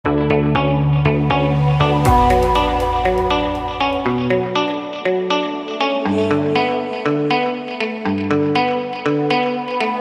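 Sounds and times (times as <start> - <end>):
plucked notes: 0.1 - 8.6.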